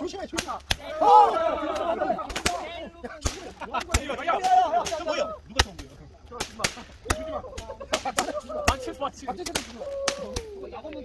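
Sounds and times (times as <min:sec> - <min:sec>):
fireworks bangs and pops: 0:00.0 - 0:01.0, 0:01.6 - 0:11.0.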